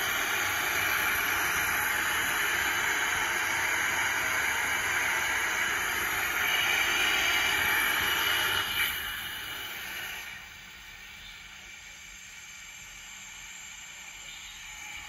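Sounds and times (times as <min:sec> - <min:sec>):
gas burner flame hissing: 0:00.0 - 0:12.2.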